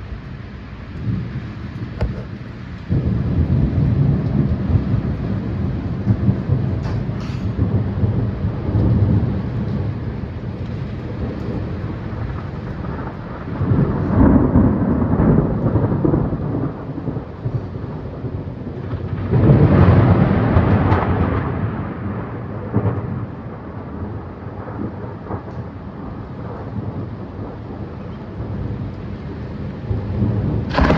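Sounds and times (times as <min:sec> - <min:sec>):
thunder rumbling: 0:00.0 - 0:30.9.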